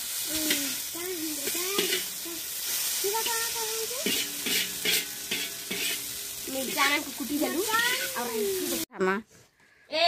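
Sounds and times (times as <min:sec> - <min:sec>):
noodles sizzling in a wok: 0:00.0 - 0:09.0
metal spatula scraping wok: 0:00.4 - 0:08.9.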